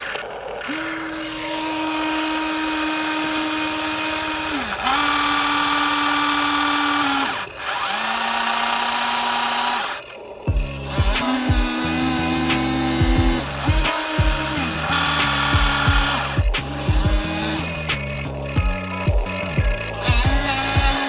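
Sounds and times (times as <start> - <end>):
small electric motor whining: 0.0 - 21.0.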